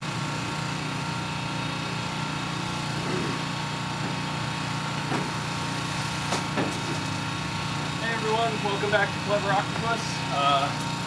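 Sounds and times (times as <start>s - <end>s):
power sander running: 0.4s - 11.0s.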